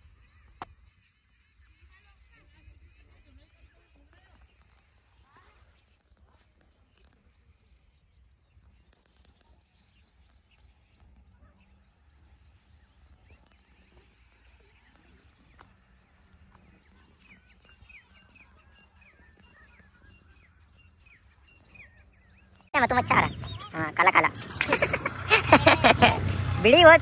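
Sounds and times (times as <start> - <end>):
faint bird chirps: 0.0 - 24.4.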